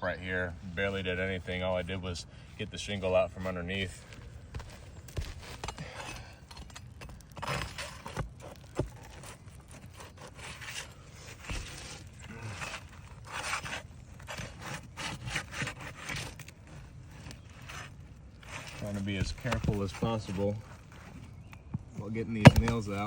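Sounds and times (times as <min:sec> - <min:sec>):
tool scraping under shingles: 0:00.4 - 0:23.0.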